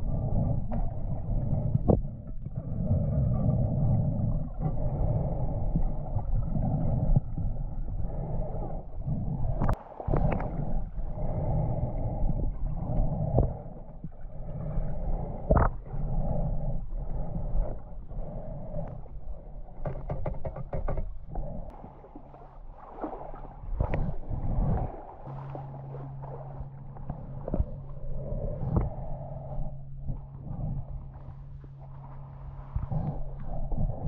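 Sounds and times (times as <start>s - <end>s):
muffled water sloshing: 0.0s - 34.0s.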